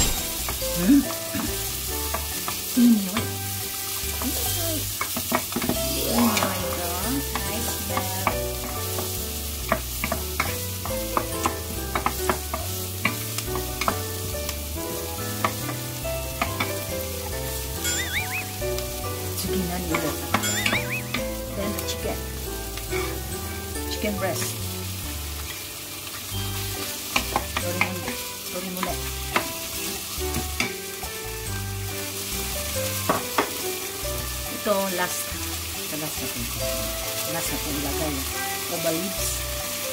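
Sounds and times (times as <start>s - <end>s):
onion sizzling in frying pan: 0.0s - 39.9s.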